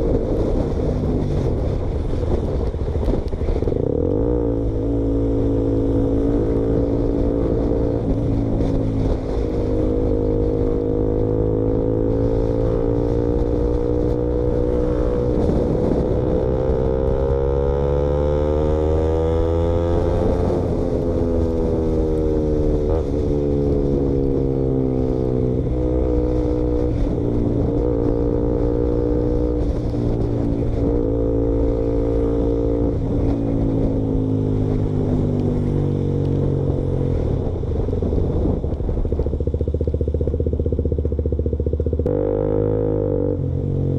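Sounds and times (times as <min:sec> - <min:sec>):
loud motorcycle engine: 0:00.0 - 0:43.9.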